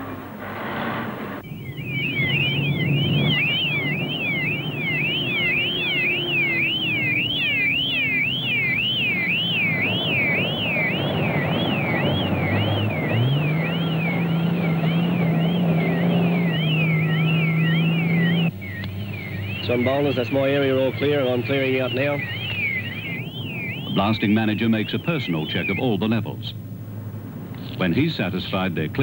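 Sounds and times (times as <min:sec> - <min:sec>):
vehicle warning siren: 0:00.0 - 0:28.1
truck engine running: 0:00.0 - 0:29.0.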